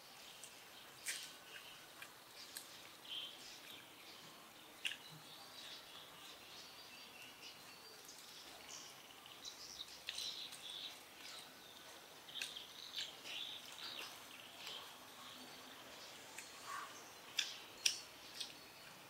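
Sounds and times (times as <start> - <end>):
bird chirps and tweets: 0.0 - 19.0
outdoor background noise: 0.0 - 19.0.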